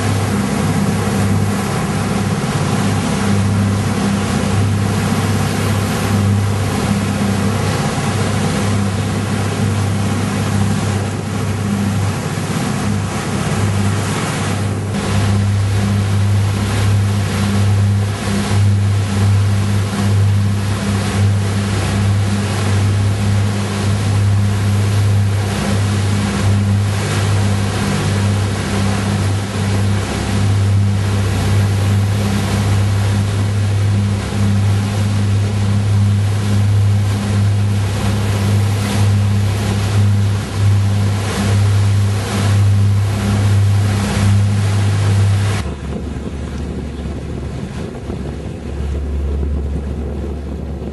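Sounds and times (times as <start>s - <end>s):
boat engine humming: 0.0s - 50.9s
water rushing: 0.0s - 50.9s
wind: 0.0s - 50.9s.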